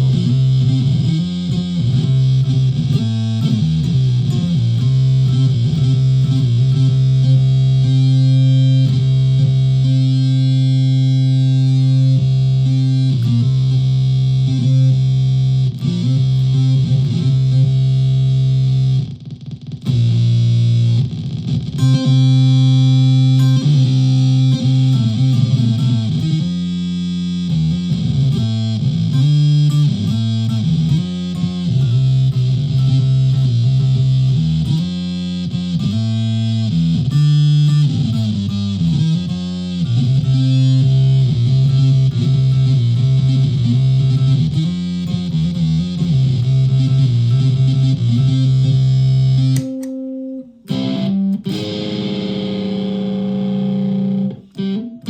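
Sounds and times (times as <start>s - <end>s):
electric ukulele with pitch bends: 0.0s - 55.0s.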